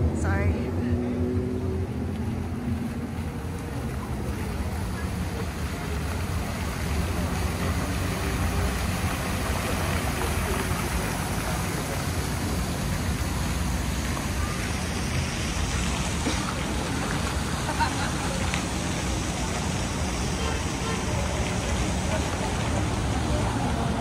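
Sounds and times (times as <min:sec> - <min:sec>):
fountain splashing: 0:00.0 - 0:24.0
street traffic rumble: 0:00.0 - 0:24.0.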